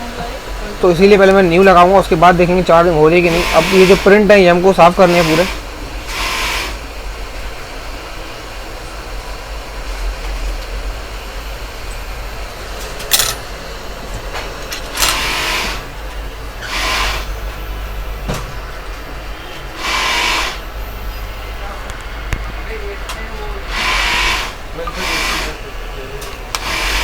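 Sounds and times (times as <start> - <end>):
low mains hum: 0.0 - 26.8.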